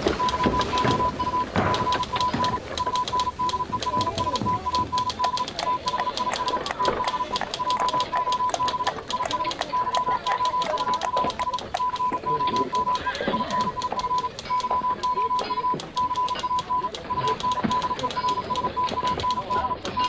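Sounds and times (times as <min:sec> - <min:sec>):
morse code beeping: 0:00.0 - 0:20.0
telegraph clicks clattering: 0:00.0 - 0:20.0.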